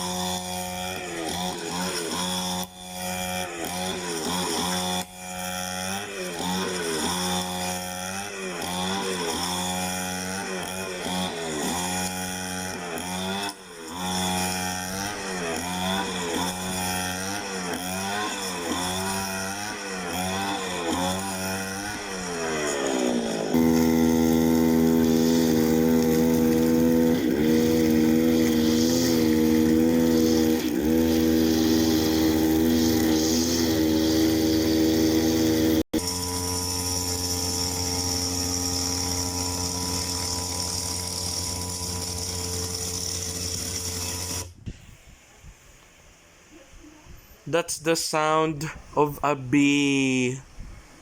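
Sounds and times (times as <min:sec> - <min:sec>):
grass cutter engine running: 0:00.0 - 0:44.5.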